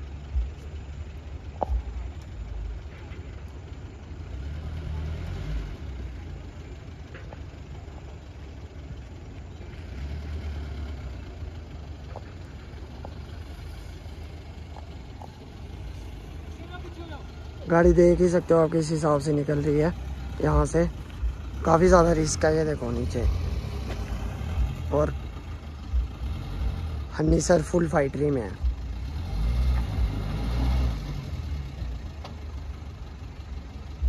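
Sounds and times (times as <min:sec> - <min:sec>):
suv engine rumbling under load: 0:00.0 - 0:34.0.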